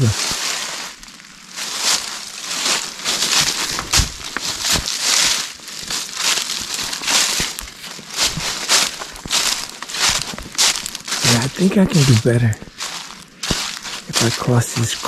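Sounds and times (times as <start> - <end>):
footsteps crunching dry leaves: 0.0 - 15.0.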